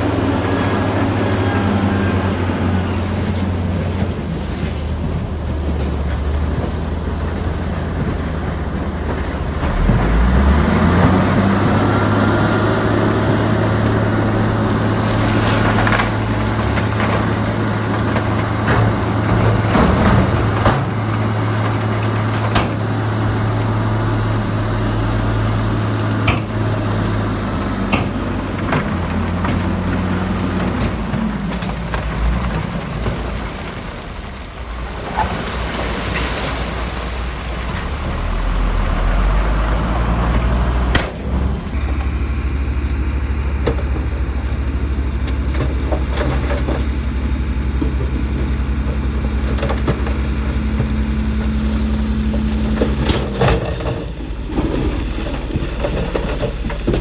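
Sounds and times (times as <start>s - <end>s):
diesel machinery engine revving: 0.0s - 57.0s.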